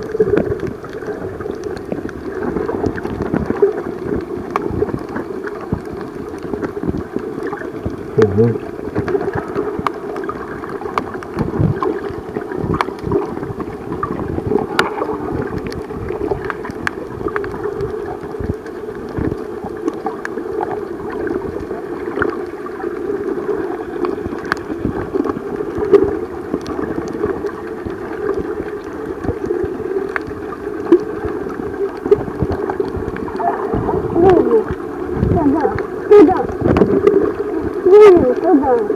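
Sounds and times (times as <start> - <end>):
muffled water sloshing underwater: 0.0 - 38.9.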